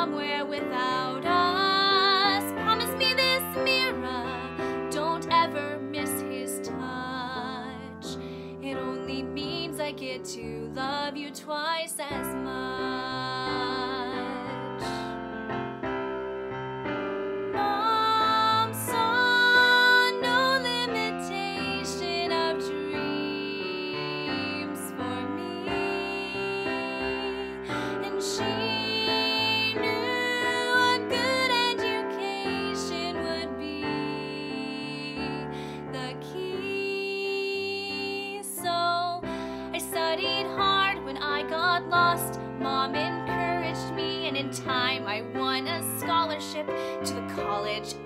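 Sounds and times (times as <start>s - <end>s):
woman singing ballad: 0.0s - 15.3s, 17.5s - 48.0s
piano accompaniment: 0.0s - 48.0s.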